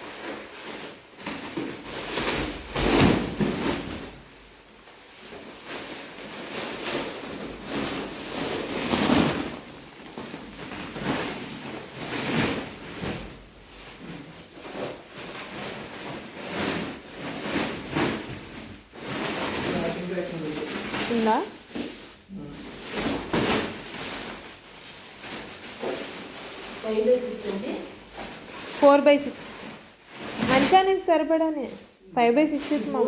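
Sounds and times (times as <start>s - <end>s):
packaging rustling and scraping: 0.0s - 33.0s.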